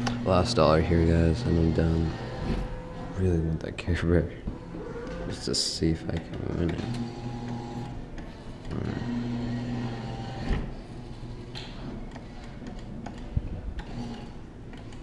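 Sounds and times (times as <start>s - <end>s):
claw machine motor hum: 0.0s - 3.2s, 4.5s - 15.0s.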